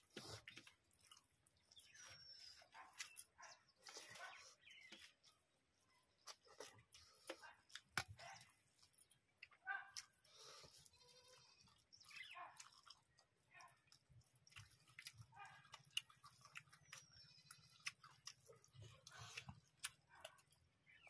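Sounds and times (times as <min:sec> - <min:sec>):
chewing and lip smacking: 0:00.0 - 0:21.0.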